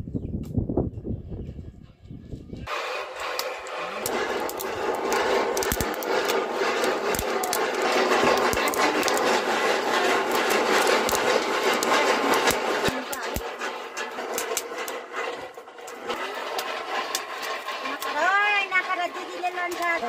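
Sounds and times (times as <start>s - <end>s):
maize kernels popping in iron pan: 2.7s - 20.0s.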